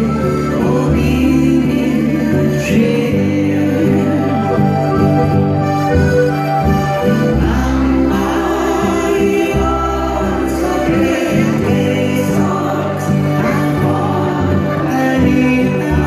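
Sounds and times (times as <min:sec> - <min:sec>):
men singing in harmony: 0:00.0 - 0:05.0, 0:06.9 - 0:16.0
acoustic guitar: 0:00.0 - 0:16.0
button accordion: 0:00.0 - 0:16.0
upright bass: 0:00.0 - 0:16.0.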